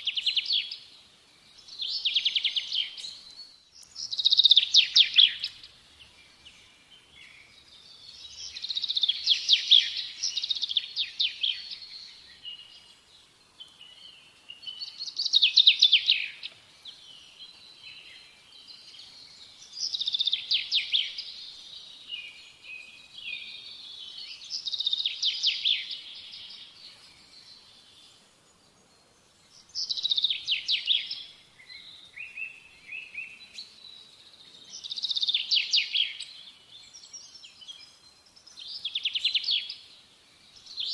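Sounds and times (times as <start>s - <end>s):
bird chirps and trills: 1.6s - 40.9s.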